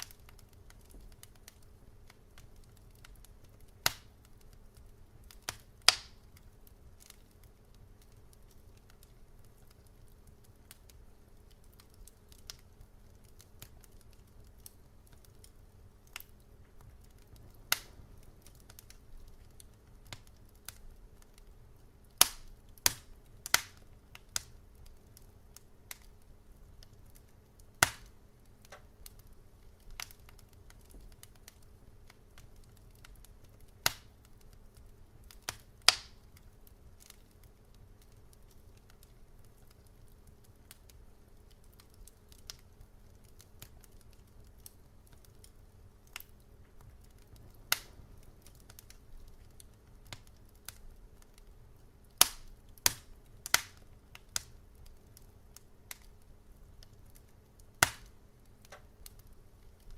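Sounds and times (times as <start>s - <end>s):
loud pops of fire: 0.0s - 59.9s
wood fire crackling: 0.0s - 59.9s.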